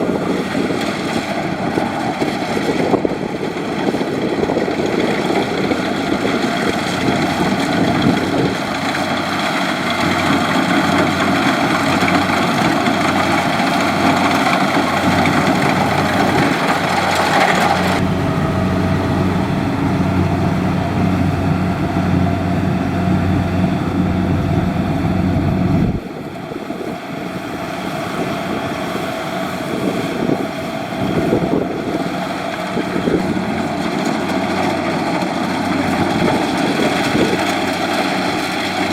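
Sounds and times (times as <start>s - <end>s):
combine harvester engine running: 0.0s - 38.9s
deep steady hum: 0.0s - 38.9s.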